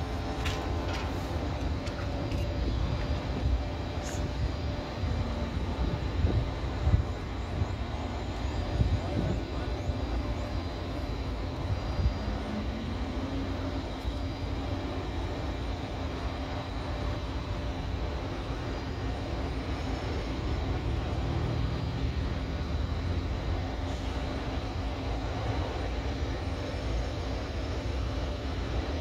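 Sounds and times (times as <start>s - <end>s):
jet engines running at low power: 0.0s - 29.0s.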